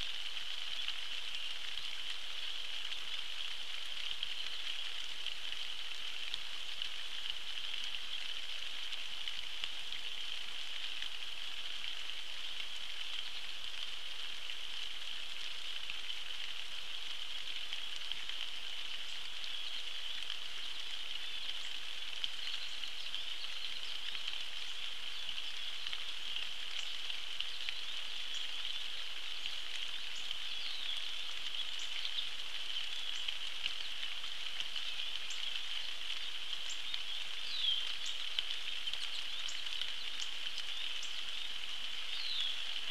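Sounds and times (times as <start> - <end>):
rain falling on a pond: 0.0 - 42.9.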